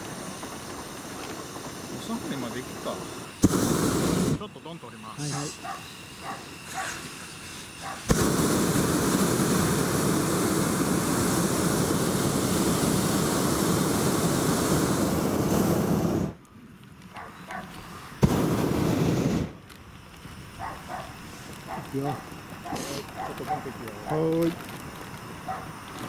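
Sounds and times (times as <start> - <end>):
burner ignition click: 0.0 - 12.4, 14.8 - 26.0
propane burner blast: 0.0 - 26.0.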